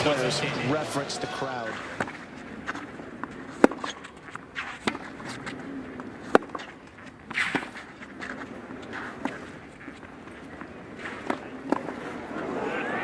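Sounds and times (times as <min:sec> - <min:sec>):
shoes scuffing on clay: 0:01.6 - 0:12.2
tennis ball hit by racket: 0:01.7 - 0:13.0.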